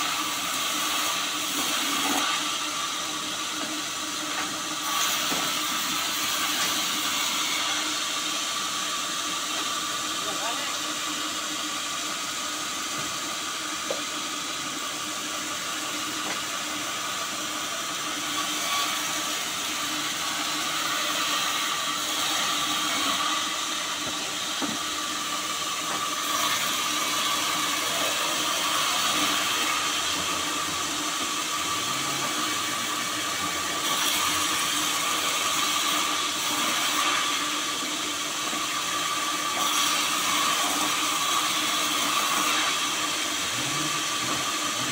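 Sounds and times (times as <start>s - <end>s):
bandsaw cutting wood: 0.0s - 10.8s, 13.8s - 44.9s.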